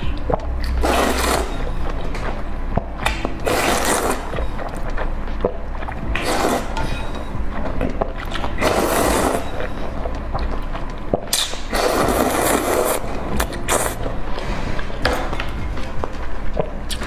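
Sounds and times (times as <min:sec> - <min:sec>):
wet chewing and slurping: 0:00.0 - 0:17.0.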